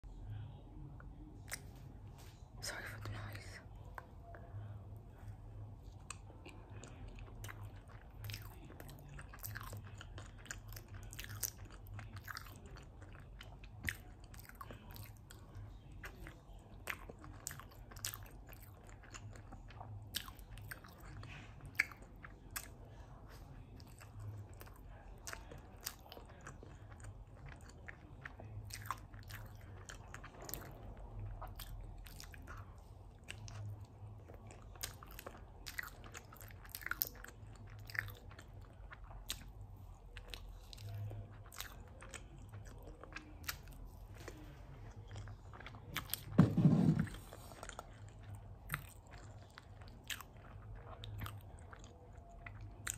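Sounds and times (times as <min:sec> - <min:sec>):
close chewing of soft cake: 0:00.0 - 0:52.9.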